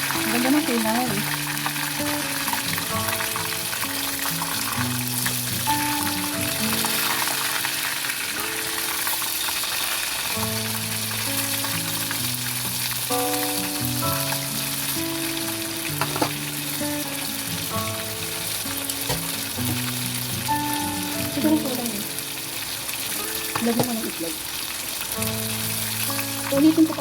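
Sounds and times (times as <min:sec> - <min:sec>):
background music melody: 0:00.0 - 0:27.0
food sizzling in hot oil: 0:00.0 - 0:27.0.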